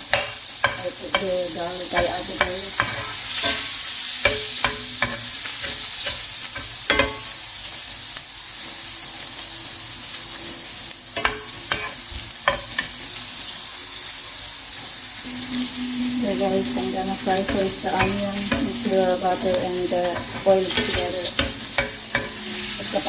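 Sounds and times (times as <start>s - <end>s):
onion and garlic sizzling: 0.0s - 23.0s.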